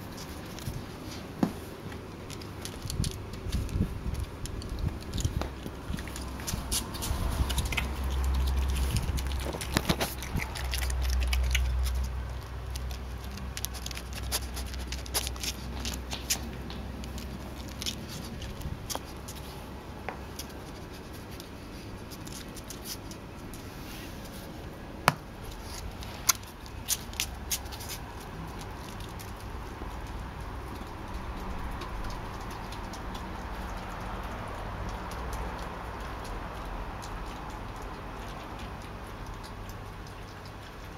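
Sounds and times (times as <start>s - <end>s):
badger claws clicking and tapping: 1.8s - 23.6s, 25.0s - 40.9s.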